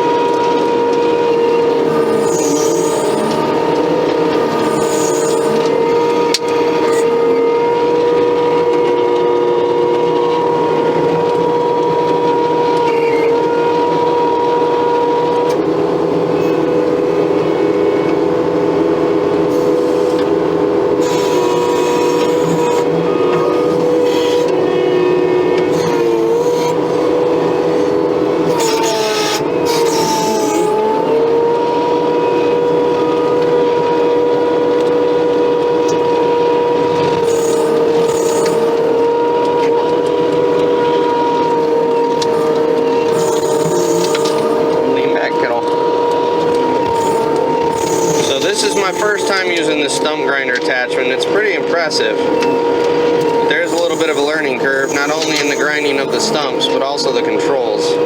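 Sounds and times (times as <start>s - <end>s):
hydraulic whine: 0.0s - 58.0s
skid steer engine under load: 0.0s - 58.0s.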